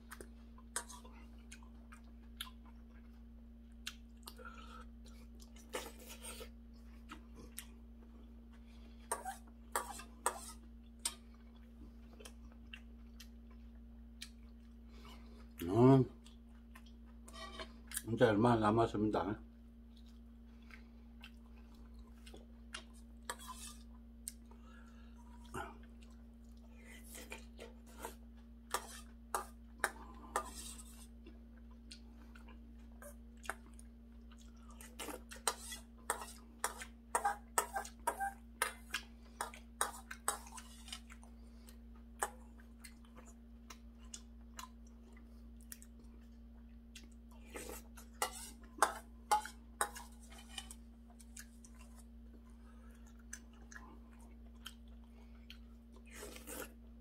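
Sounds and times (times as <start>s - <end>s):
person chewing: 0.0s - 18.1s, 19.8s - 57.0s
steady low hum: 0.0s - 57.0s.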